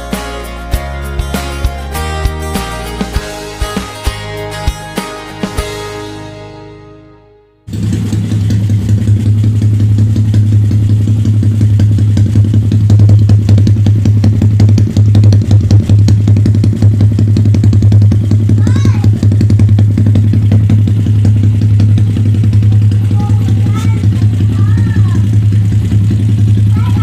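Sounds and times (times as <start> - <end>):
motorcycle engine running loudly: 0.0 - 7.0, 7.6 - 27.0.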